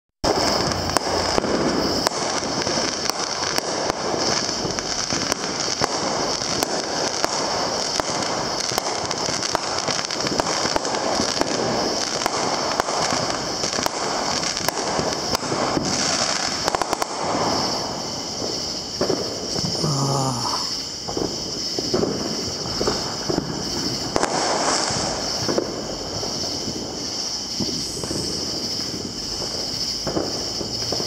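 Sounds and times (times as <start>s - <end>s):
fireworks crackling: 0.2s - 31.0s
fireworks popping: 0.2s - 31.0s.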